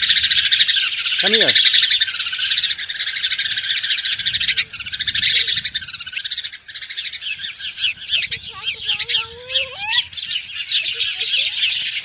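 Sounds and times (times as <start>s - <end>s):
birds chirping chorus: 0.0s - 12.0s.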